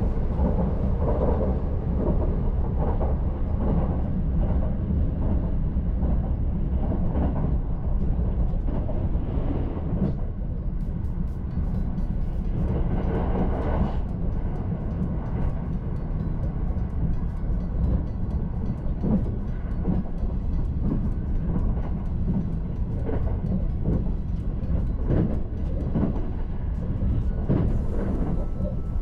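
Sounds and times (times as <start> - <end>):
train rumbling inside carriage: 0.0 - 29.0.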